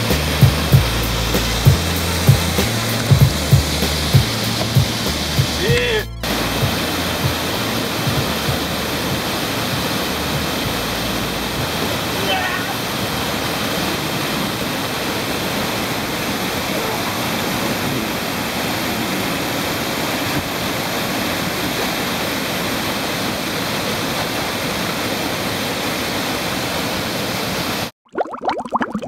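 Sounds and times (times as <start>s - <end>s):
waterfall and rapids rushing: 0.0s - 27.9s.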